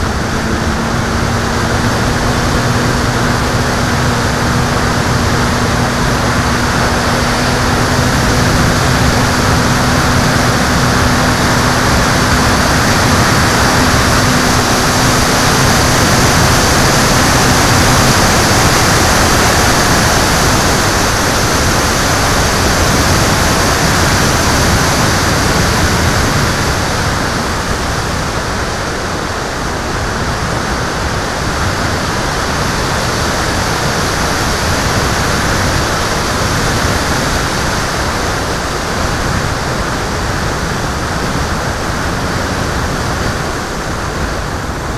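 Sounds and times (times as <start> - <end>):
rushing wind noise: 0.0 - 44.9.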